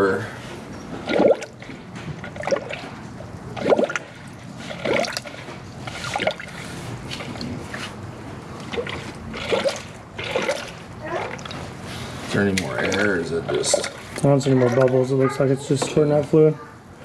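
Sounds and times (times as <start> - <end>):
coolant gurgling in funnel: 0.0 - 15.4.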